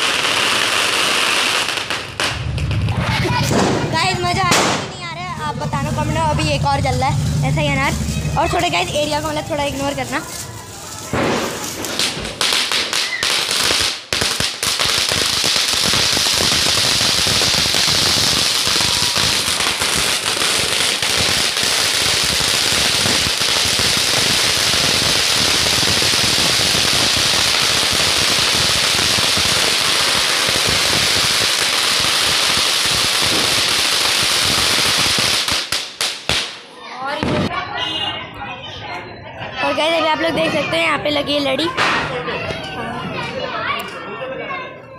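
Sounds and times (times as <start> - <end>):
firework fountain hissing sparks: 0.0 - 37.4.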